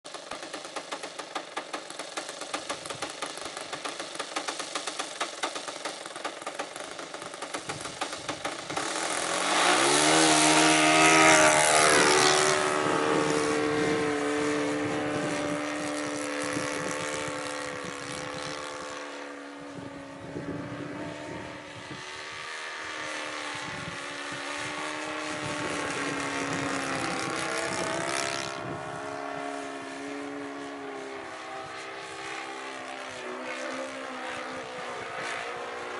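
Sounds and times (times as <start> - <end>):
model aeroplane engine: 0.1 - 35.9.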